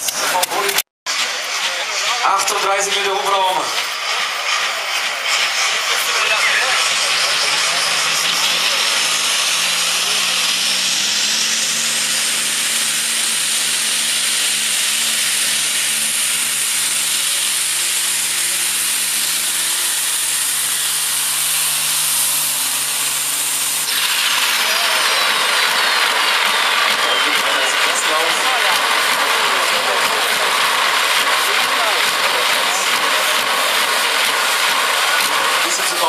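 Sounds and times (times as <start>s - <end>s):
tractor diesel engine under load: 0.0s - 36.0s.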